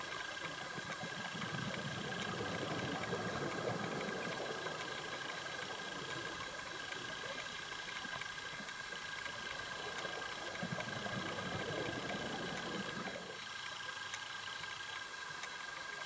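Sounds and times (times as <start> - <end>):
constant high whine: 0.0 - 16.0
regulator bubbles rumbling: 0.0 - 16.0
steady underwater hiss: 0.0 - 16.0.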